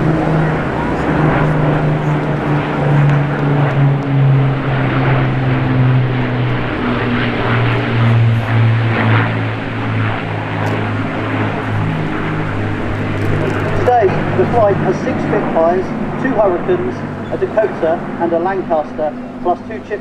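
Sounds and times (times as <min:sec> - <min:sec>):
propeller plane droning past: 0:00.0 - 0:20.0.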